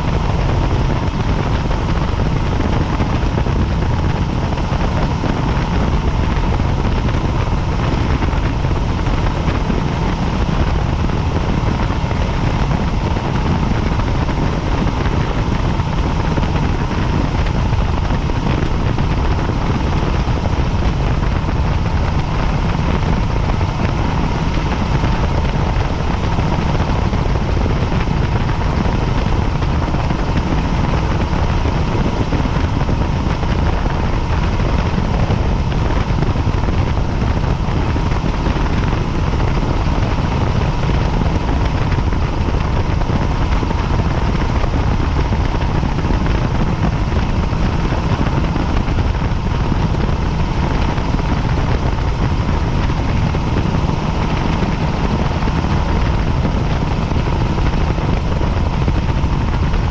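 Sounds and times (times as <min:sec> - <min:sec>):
faint whine: 0:00.0 - 0:59.9
helicopter rotor and engine: 0:00.0 - 0:59.9.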